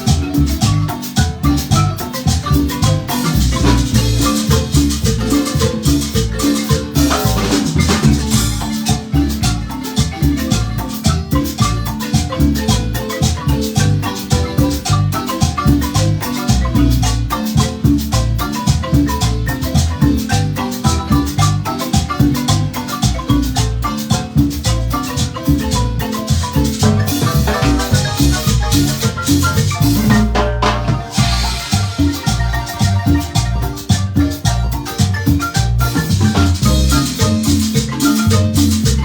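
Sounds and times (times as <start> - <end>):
low bass line: 0.0 - 39.0
marimba mallet notes: 0.0 - 39.0
shaker and percussion beat: 0.0 - 39.0.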